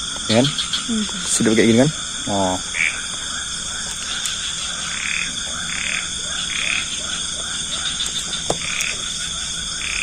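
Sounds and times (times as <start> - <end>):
frogs croaking: 0.0 - 10.0.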